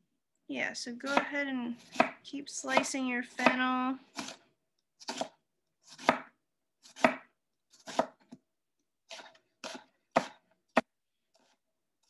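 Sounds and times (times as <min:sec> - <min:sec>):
knife slicing fennel: 0:01.1 - 0:08.4, 0:09.0 - 0:11.6.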